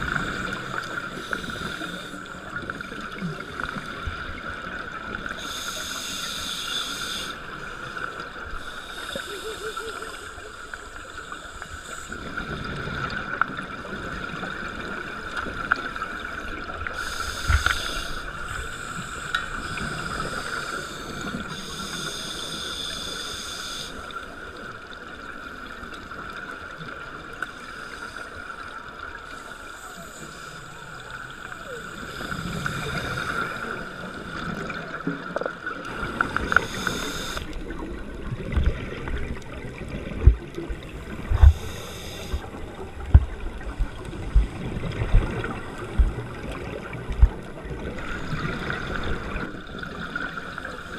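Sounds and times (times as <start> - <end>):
steady underwater hum: 0.0 - 50.9.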